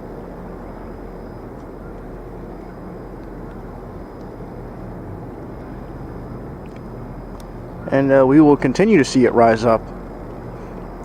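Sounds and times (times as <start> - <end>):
outdoor background rumble: 0.0 - 11.0.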